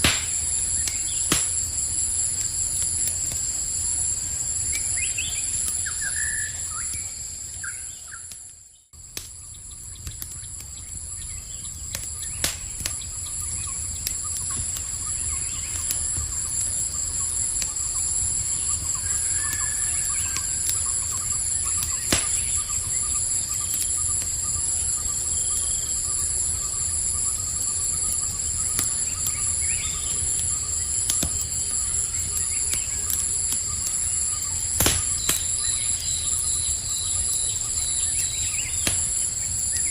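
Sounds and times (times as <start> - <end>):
campfire crackling pops: 0.0 - 39.9
crickets trilling: 0.0 - 39.9.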